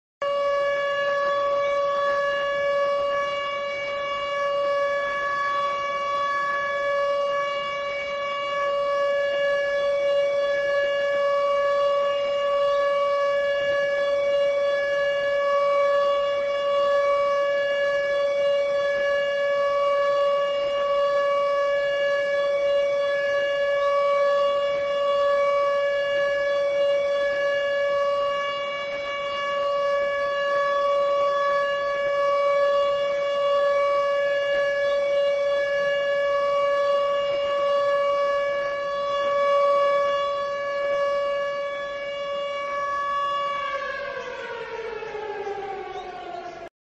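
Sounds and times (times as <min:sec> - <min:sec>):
steady siren tone: 0:00.2 - 0:46.7.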